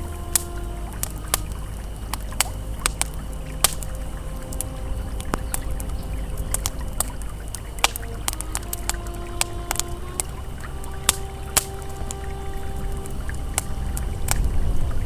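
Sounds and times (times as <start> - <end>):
campfire crackling and popping: 0.0 - 15.0
faint ambient hum: 0.0 - 15.0
river flowing: 0.0 - 15.0.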